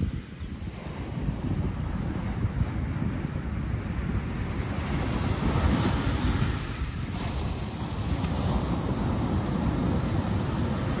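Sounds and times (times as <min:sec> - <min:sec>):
wind rumble on microphone: 0:00.0 - 0:11.0
waves breaking on pebble shore: 0:00.6 - 0:11.0.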